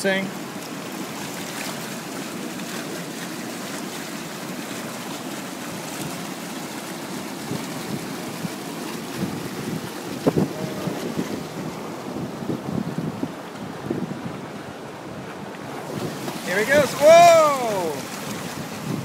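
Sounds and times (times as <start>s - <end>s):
river rapids rushing over rocks: 0.0s - 12.3s, 14.6s - 19.0s.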